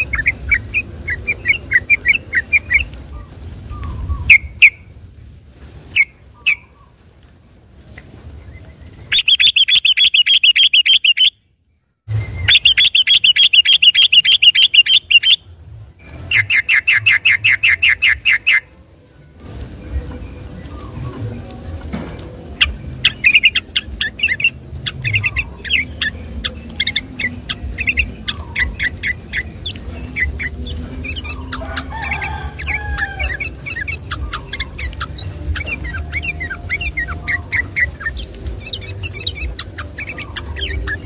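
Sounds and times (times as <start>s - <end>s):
bird singing: 0.0s - 4.9s, 8.3s - 18.8s, 19.5s - 41.0s.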